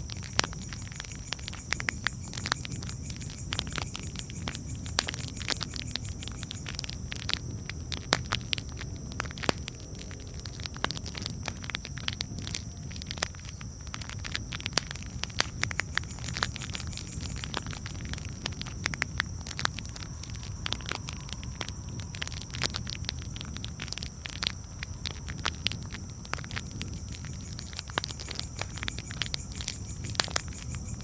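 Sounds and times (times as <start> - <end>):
low rumble of burning: 0.0 - 31.0.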